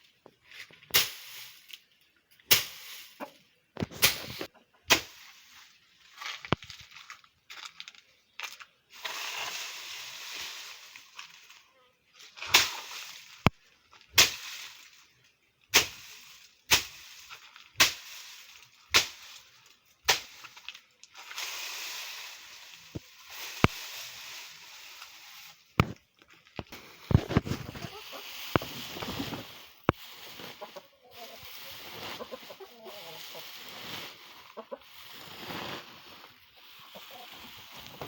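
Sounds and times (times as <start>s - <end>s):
scraping and rustling: 0.1s - 38.0s.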